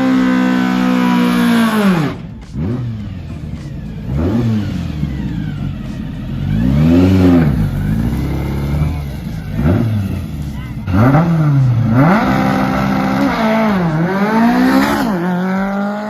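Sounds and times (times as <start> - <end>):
race engine revving: 0.0 - 16.0.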